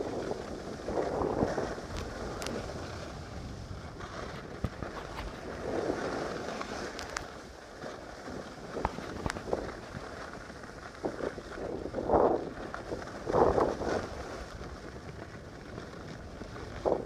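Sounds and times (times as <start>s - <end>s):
wind buffeting microphone: 0.0s - 7.6s, 8.2s - 17.0s
sliding over packed snow: 0.0s - 17.0s.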